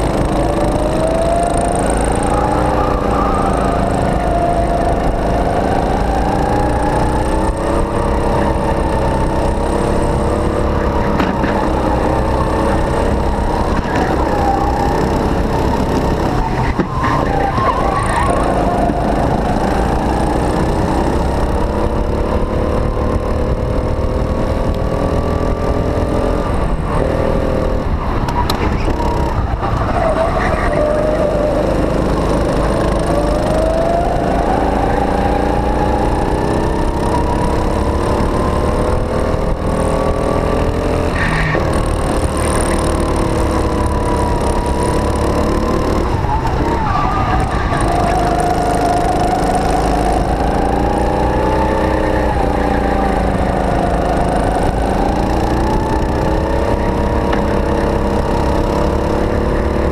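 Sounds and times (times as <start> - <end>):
other kart engines: 0.0 - 59.9
racing kart engine: 0.0 - 59.9.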